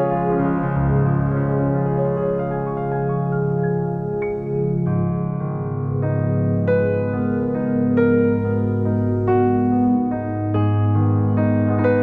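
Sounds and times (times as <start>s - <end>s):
electric piano chords: 0.0s - 12.0s.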